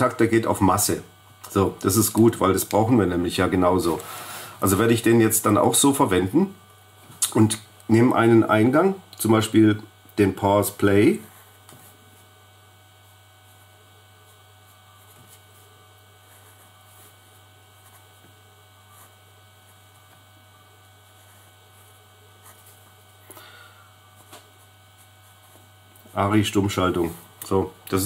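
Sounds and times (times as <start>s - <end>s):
faint electrical mains hum: 0.0s - 28.0s.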